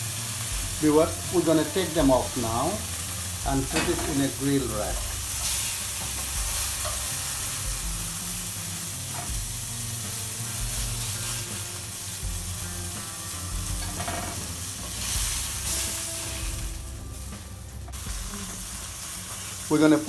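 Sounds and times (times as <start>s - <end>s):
patties sizzling in oil: 0.0s - 20.0s.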